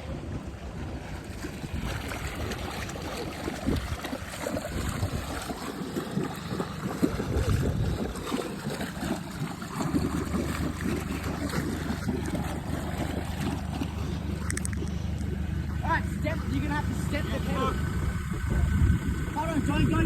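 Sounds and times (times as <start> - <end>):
low steady hum: 0.0 - 20.0
muddy water sloshing and splashing: 0.0 - 20.0
wind buffeting microphone: 0.0 - 20.0.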